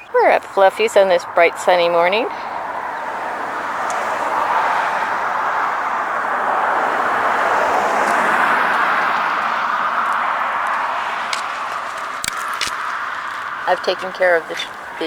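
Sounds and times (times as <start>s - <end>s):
passing road vehicle rushing: 1.1s - 15.0s.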